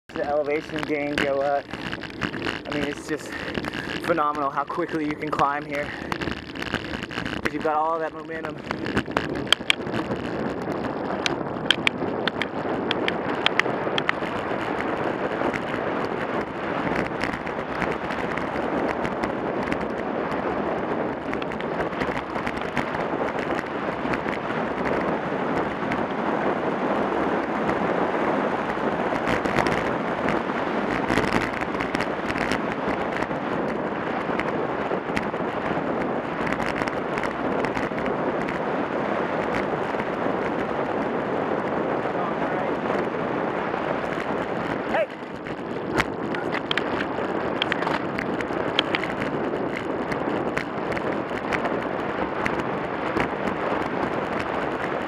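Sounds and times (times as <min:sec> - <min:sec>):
sharp clicks and crackles: 0:00.0 - 0:55.0
wind rushing over microphone: 0:00.0 - 0:55.0.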